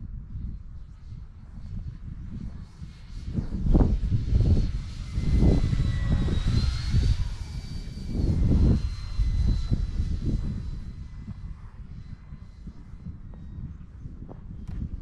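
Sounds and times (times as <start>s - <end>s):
rc plane motor whine: 0.0s - 15.0s
wind buffeting microphone: 0.0s - 15.0s.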